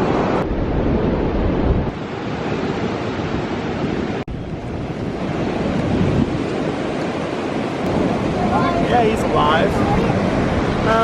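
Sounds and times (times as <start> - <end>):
ocean surf washing in: 0.0 - 11.0
wind buffeting microphone: 0.0 - 11.0.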